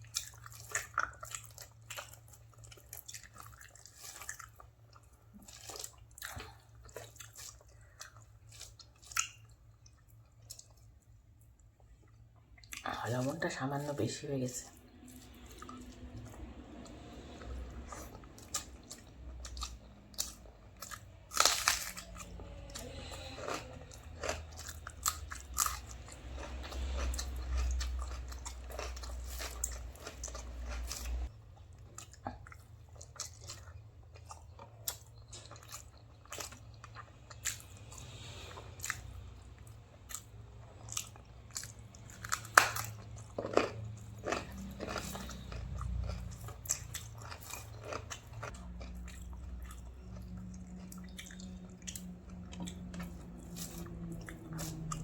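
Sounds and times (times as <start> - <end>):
person chewing food: 0.0 - 14.0, 14.6 - 55.0
food crunching: 0.0 - 55.0.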